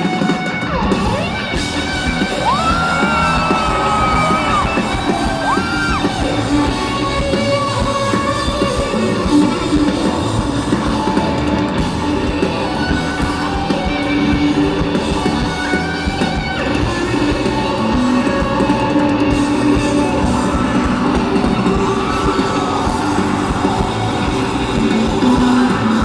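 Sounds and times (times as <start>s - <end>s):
electric guitar: 0.0s - 26.0s
live rock band playing: 0.0s - 26.0s.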